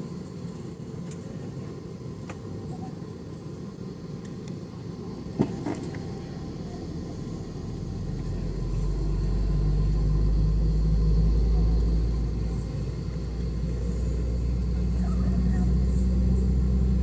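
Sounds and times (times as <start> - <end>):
low aircraft cabin rumble: 0.0 - 17.0.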